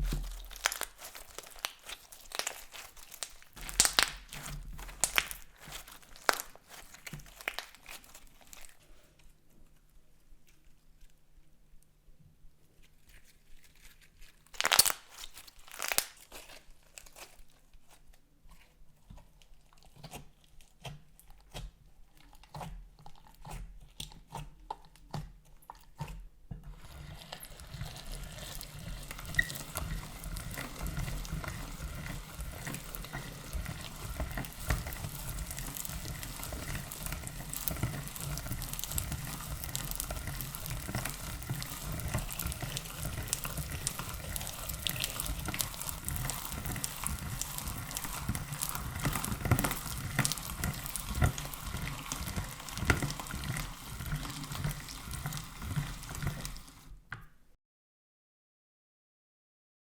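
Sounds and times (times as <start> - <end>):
slime crackling while mixed by hand: 0.0 - 11.6, 12.6 - 57.1.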